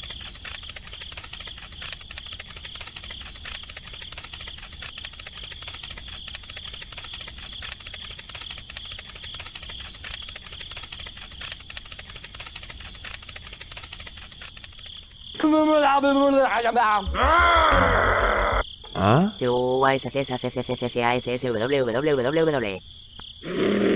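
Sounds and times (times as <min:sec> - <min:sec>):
insect trilling: 0:00.0 - 0:23.9.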